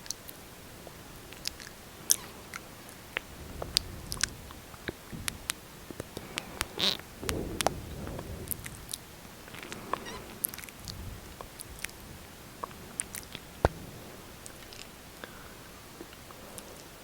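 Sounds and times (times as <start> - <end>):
soft low rustle: 0.8 - 17.0.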